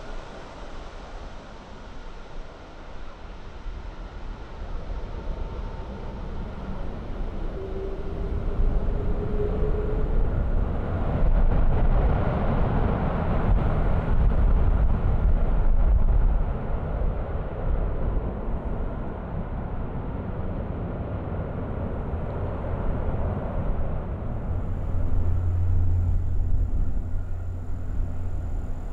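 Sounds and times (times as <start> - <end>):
distant jet engine rumble: 4.7 - 28.9.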